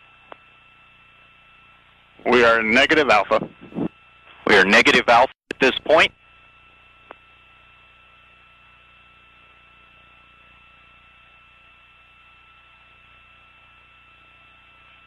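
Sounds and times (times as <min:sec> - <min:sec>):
faint steady tones: 0:00.0 - 0:15.0
radio channel hiss and hum: 0:00.0 - 0:15.0.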